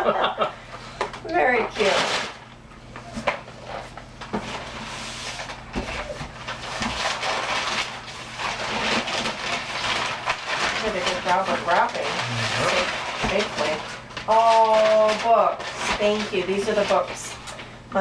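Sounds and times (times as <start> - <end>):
wrapping paper rustling: 1.5 - 2.4, 3.0 - 17.8.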